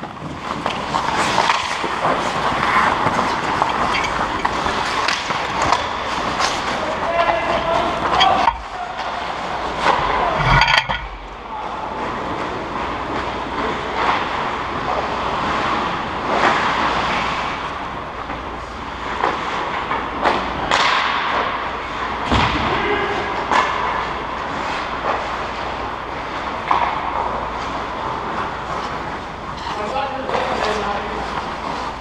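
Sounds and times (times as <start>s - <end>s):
skates scraping across ice: 0.0s - 22.1s, 23.4s - 32.0s
hockey sticks and pucks cracking: 0.0s - 32.0s
steady low hum: 0.3s - 32.0s.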